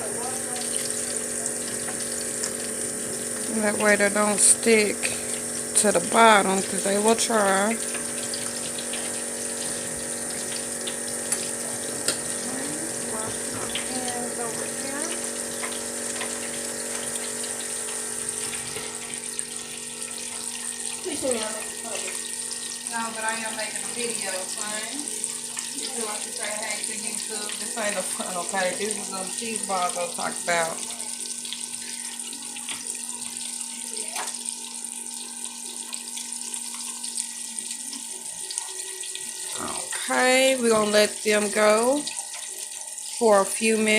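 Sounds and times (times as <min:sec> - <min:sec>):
hot oil sizzling and bubbling: 0:00.0 - 0:43.9.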